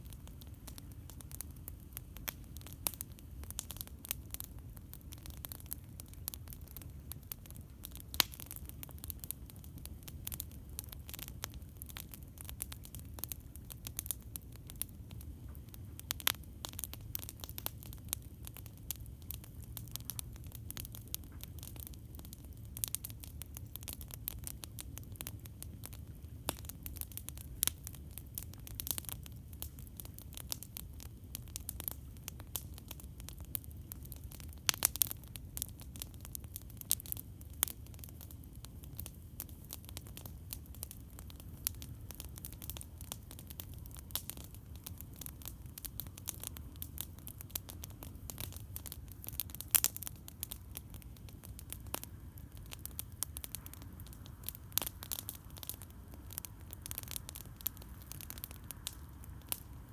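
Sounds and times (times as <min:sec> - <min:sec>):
low fire rumble: 0:00.0 - 0:59.9
wood crackling and popping: 0:00.0 - 0:59.9.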